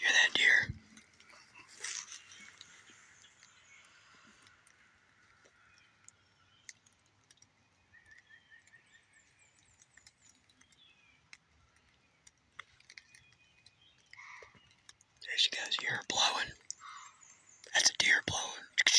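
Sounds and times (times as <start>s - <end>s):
songbird chirps: 0.0s - 18.9s.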